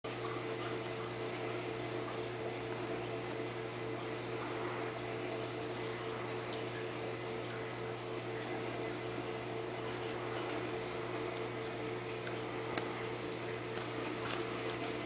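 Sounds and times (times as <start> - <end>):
aquarium pump hum and hiss: 0.0 - 15.0.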